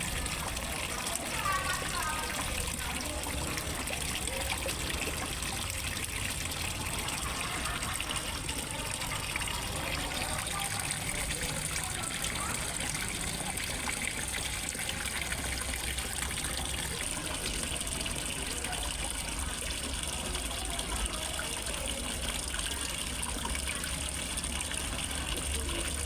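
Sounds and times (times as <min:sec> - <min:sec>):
waterfall splashing into pond: 0:00.0 - 0:26.0.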